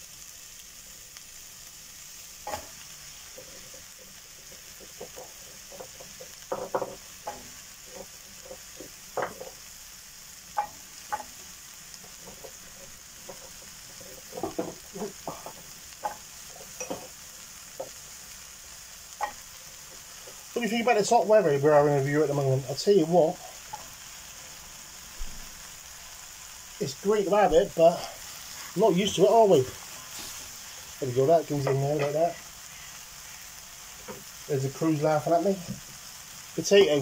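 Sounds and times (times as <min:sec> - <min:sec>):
meat sizzling in a pot: 0:00.0 - 0:37.0.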